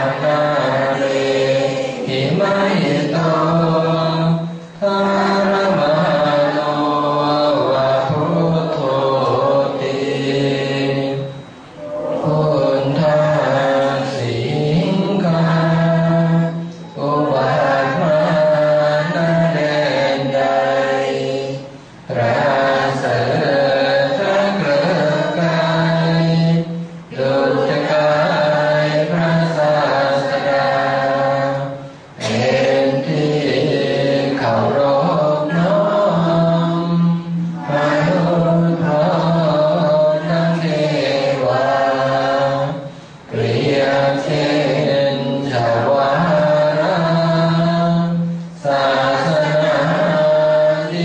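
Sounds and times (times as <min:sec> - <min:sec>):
group chanting melodically: 0:00.0 - 0:51.0.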